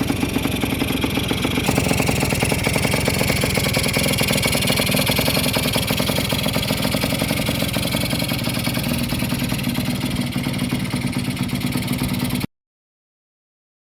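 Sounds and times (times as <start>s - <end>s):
two-stroke engine idling: 0.0s - 12.5s.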